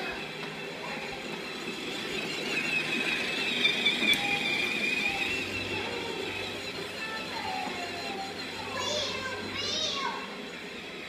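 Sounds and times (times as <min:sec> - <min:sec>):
toy train motor whine: 0:00.0 - 0:11.0
toy train wheels rumbling: 0:00.0 - 0:11.0.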